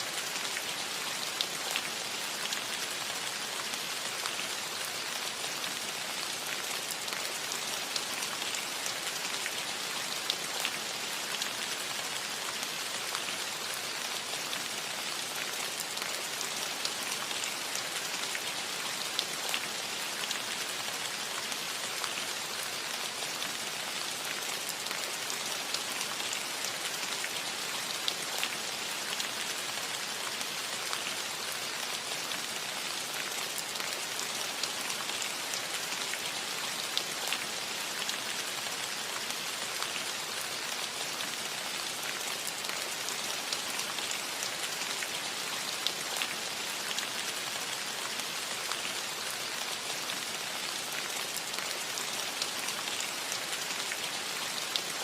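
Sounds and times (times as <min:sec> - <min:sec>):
light rain on a metal roof: 0:00.0 - 0:55.0.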